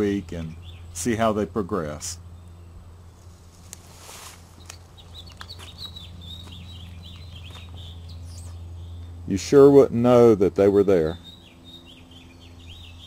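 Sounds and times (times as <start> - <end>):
songbird chattering: 0.0 - 3.2, 4.5 - 13.0.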